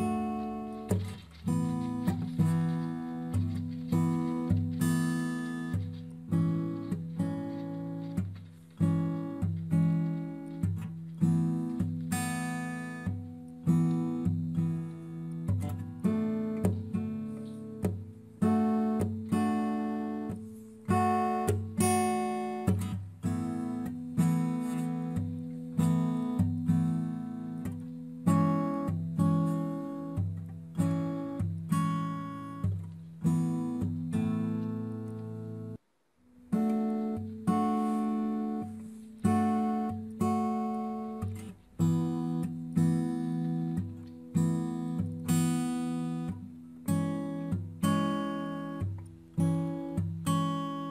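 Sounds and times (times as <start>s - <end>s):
acoustic guitar music: 0.0s - 50.9s.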